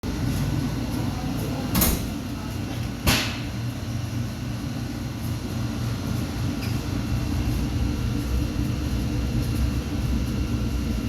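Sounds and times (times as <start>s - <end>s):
refrigeration unit humming: 0.0s - 11.0s.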